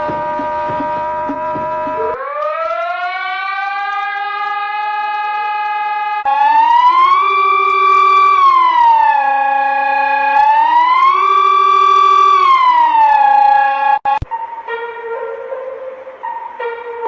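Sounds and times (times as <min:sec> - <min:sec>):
alarm siren wailing: 0:00.0 - 0:17.0.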